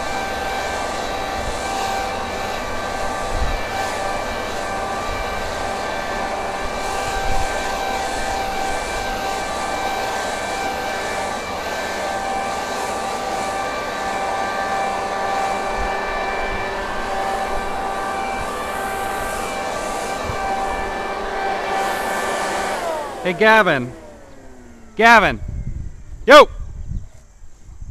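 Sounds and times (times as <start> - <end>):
leaf blower running: 0.0 - 26.2.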